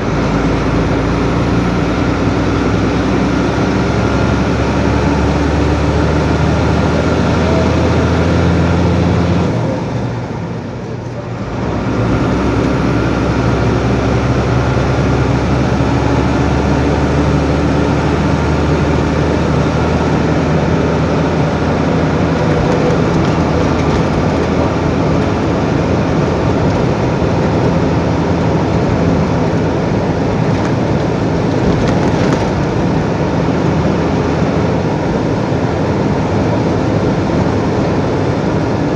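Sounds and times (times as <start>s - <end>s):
road noise: 0.0s - 38.9s
truck engine running: 0.0s - 38.9s.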